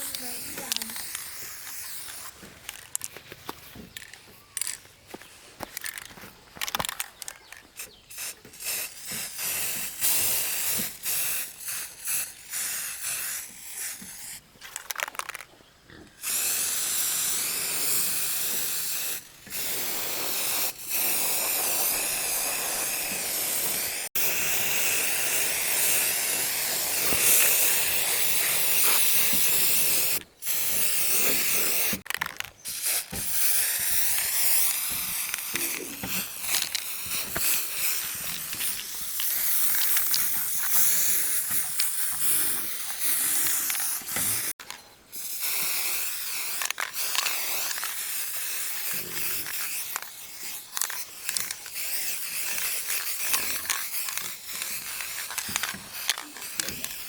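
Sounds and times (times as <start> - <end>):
pressurised air hissing from nozzle: 0.0 - 2.4, 6.9 - 14.4, 16.2 - 32.0, 32.6 - 57.0.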